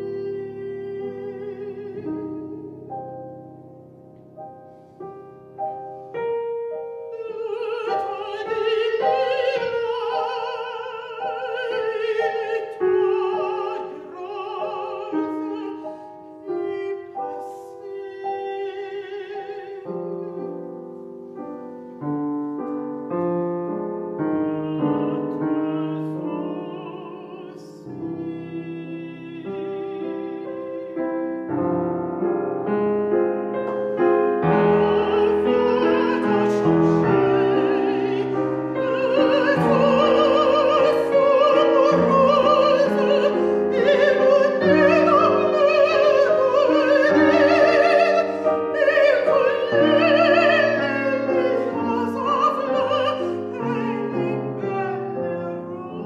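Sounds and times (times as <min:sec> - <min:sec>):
woman singing with vibrato: 0:00.0 - 0:03.3, 0:07.1 - 0:20.7, 0:24.1 - 0:31.7, 0:33.9 - 0:56.0
piano accompaniment: 0:00.0 - 0:56.0.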